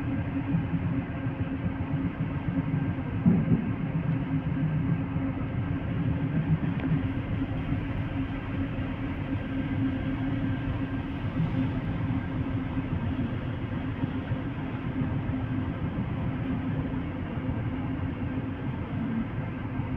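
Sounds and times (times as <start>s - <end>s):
low hum: 0.0s - 19.9s.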